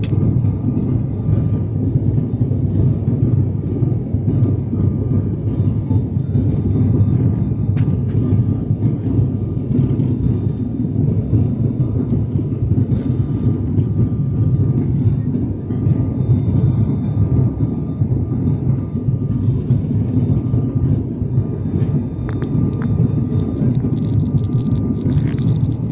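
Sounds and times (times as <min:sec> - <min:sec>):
turboprop cabin drone: 0:00.0 - 0:25.9.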